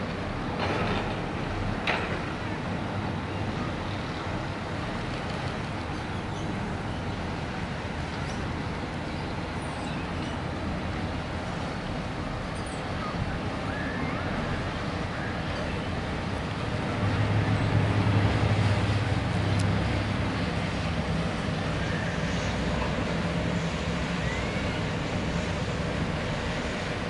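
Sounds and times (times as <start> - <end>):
ferry diesel engine drone: 0.0 - 27.0.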